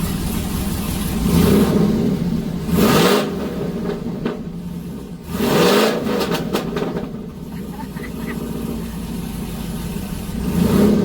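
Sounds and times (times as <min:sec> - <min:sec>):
engine revving and idling: 0:00.0 - 0:11.0.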